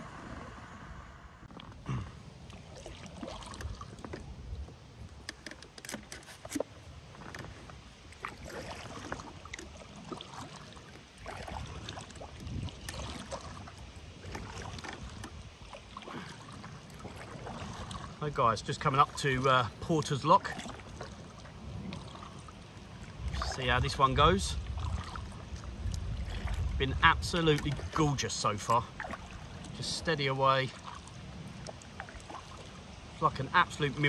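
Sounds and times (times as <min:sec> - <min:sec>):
kayak paddle splashing water: 0:00.0 - 0:34.0
water dripping off paddle: 0:01.5 - 0:34.0.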